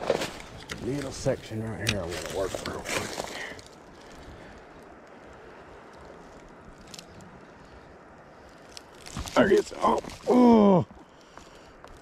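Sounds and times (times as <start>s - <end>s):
river flowing: 0.0s - 11.9s.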